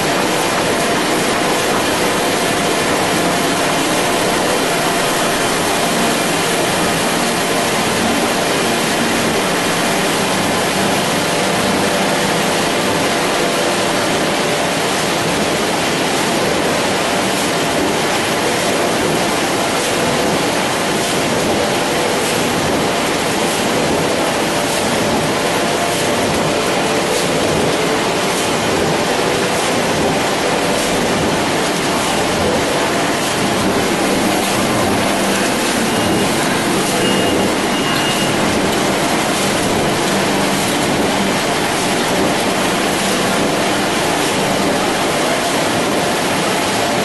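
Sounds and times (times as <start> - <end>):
printing press mechanical din: 0.0 - 47.0.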